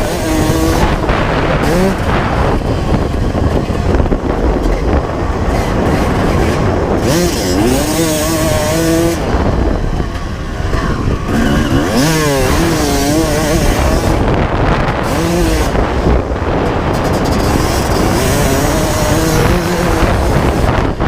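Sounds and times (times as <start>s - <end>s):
two-stroke motocross engine running: 0.0s - 21.0s.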